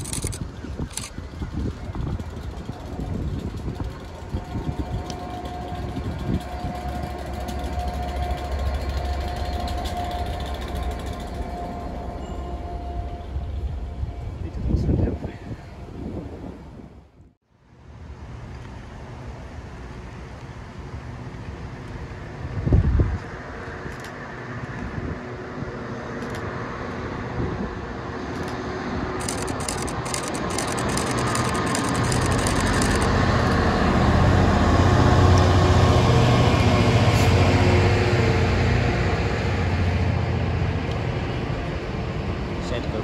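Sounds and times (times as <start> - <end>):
diesel locomotive engine rumble: 0.0 - 43.0
locomotive whine: 0.0 - 43.0.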